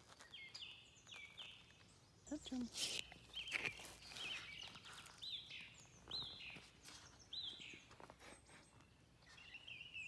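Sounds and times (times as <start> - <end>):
bird chirping: 0.1 - 10.0.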